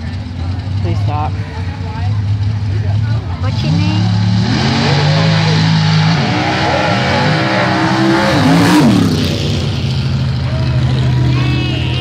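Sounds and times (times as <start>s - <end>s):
race car engines running: 0.0s - 12.0s
engine revving: 2.2s - 12.0s.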